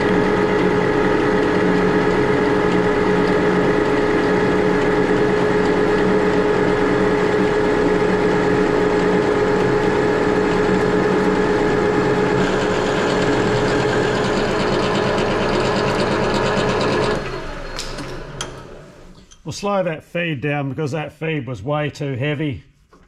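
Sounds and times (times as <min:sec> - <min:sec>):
metal lathe cutting: 0:00.0 - 0:18.8.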